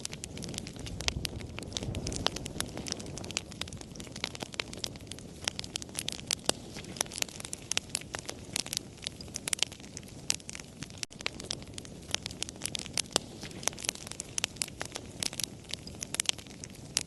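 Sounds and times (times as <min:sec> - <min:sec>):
campfire snaps and pops: 0:00.0 - 0:17.0
fire flames rumbling: 0:00.0 - 0:17.0.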